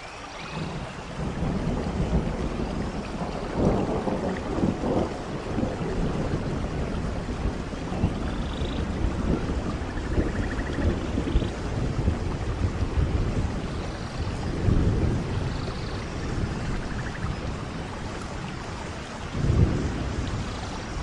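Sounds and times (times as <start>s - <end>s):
heavy rain: 0.0s - 21.0s
low thunder rumble: 0.6s - 21.0s.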